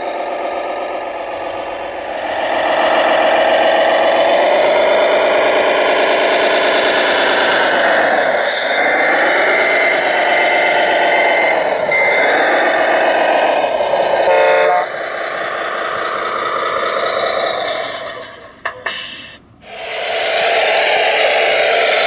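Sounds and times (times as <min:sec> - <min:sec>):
toy truck engine sound revving: 0:00.0 - 0:22.0.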